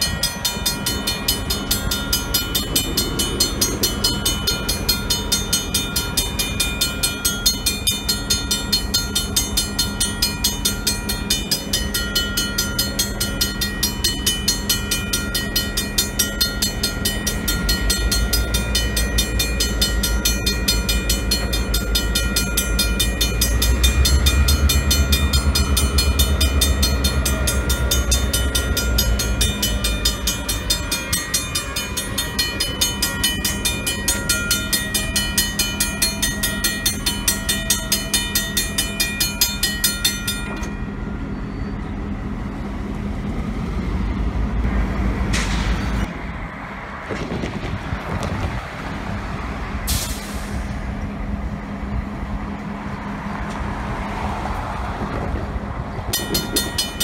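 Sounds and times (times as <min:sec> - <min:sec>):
crossing warning bell ringing: 0:00.0 - 0:46.5, 0:49.8 - 0:57.0
diesel locomotive engine throb: 0:00.0 - 0:57.0.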